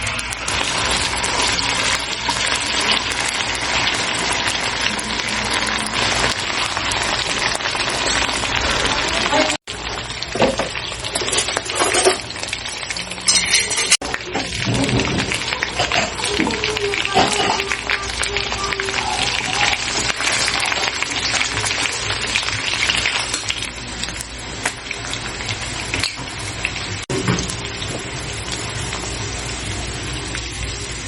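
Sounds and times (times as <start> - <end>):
chicken sizzling in a pan: 0.0 - 31.0.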